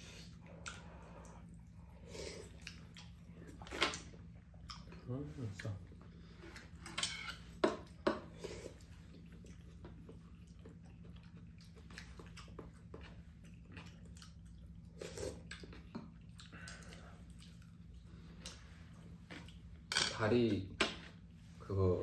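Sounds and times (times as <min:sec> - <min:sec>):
faint low hum: 0:00.0 - 0:22.0
chewing and mouth noises: 0:00.2 - 0:19.8.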